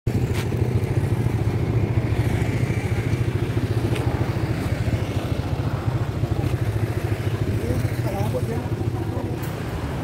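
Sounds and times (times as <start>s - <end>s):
motorcycle engine idling: 0.1s - 10.0s.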